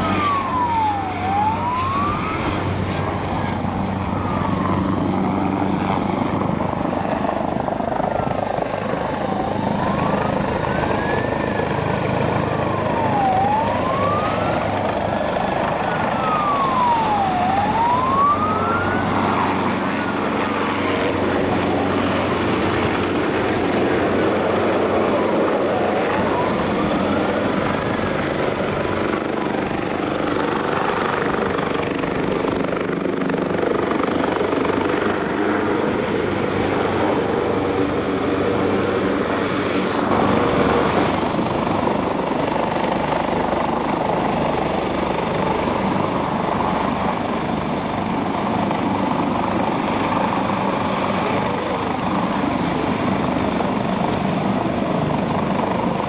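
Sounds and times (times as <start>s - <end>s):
helicopter hovering overhead: 0.0s - 56.0s.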